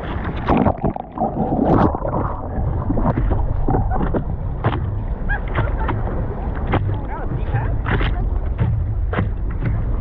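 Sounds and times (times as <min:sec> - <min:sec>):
surf splashing and sloshing: 0:00.0 - 0:10.0
wind buffeting microphone: 0:00.0 - 0:10.0.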